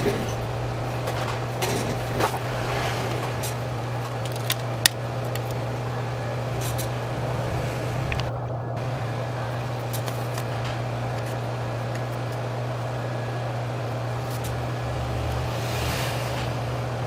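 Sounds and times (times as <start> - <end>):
fan-like rushing noise: 0.0 - 17.0
low electrical hum: 0.0 - 17.0.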